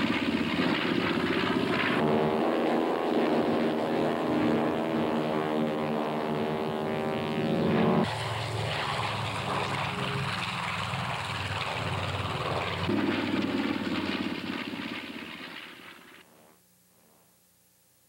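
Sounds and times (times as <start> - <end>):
twin radial engines taking off: 0.0 - 16.2
light planes droning past: 0.0 - 16.5.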